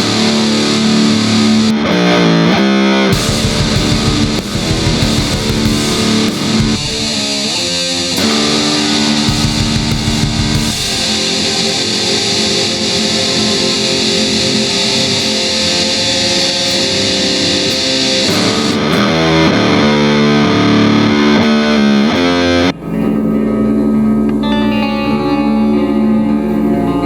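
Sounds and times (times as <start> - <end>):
doom metal instrumental: 0.0 - 27.0.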